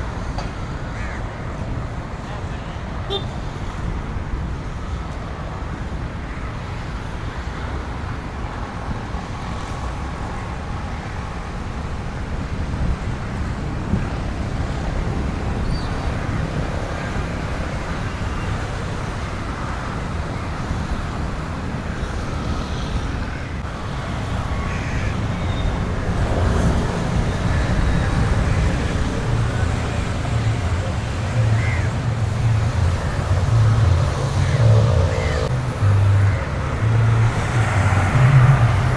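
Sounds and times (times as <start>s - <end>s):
traffic rumble: 0.0s - 38.9s.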